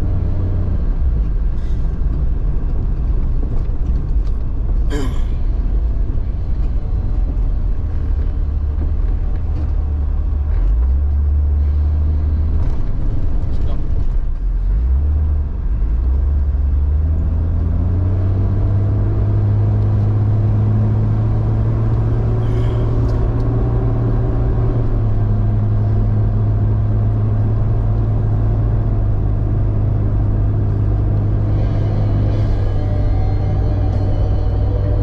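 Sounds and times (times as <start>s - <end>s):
car engine droning: 0.0s - 35.0s.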